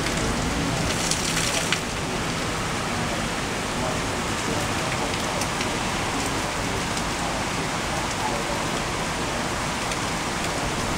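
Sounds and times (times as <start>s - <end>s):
heavy rain hitting the ground: 0.0s - 10.9s
rain drops ticking: 0.0s - 10.9s.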